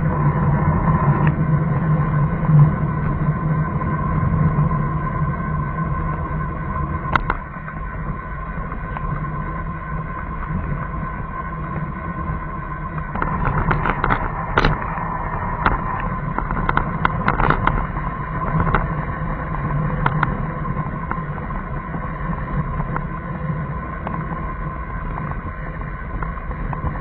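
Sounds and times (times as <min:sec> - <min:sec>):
car engine and road rumble: 0:00.0 - 0:27.0
thin steady whine: 0:00.0 - 0:27.0.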